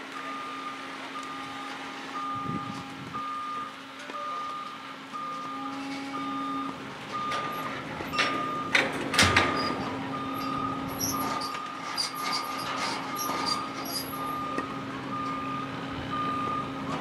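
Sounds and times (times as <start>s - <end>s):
constant low hum: 0.0s - 17.0s
reversing alarm beeping: 0.1s - 17.0s.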